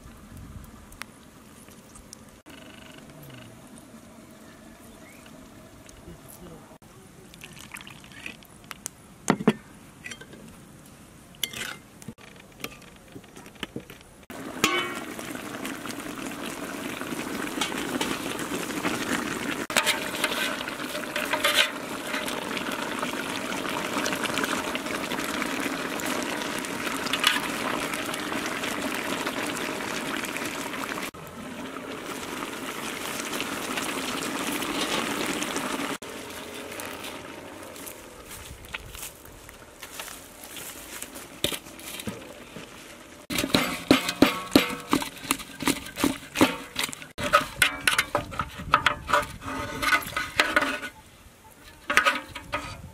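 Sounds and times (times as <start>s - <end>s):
pot bubbling and hissing: 0.0s - 9.2s, 13.0s - 52.9s.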